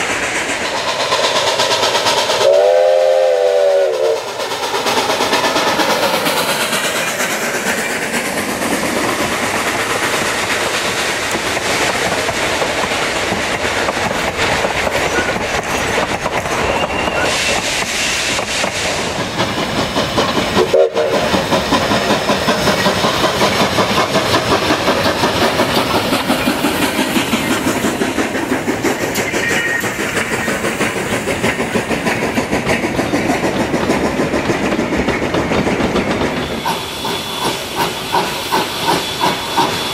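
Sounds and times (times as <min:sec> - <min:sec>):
steam locomotive passing: 0:00.0 - 0:39.9
wheels clicking over rail joints: 0:04.3 - 0:39.8.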